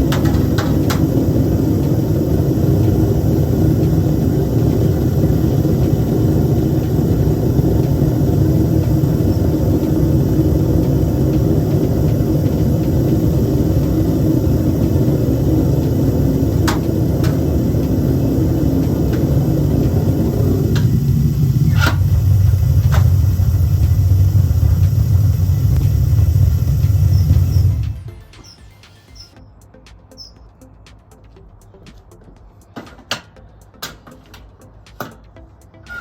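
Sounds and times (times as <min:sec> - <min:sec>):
furnace burner roaring: 0:00.0 - 0:29.4.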